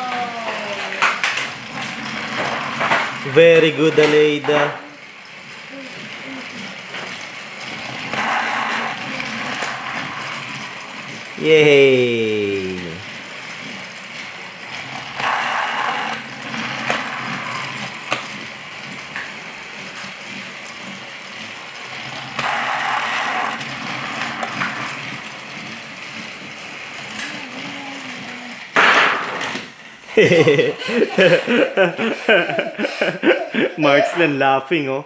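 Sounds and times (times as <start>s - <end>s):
plastic toys clicking and rattling: 0.0s - 34.3s.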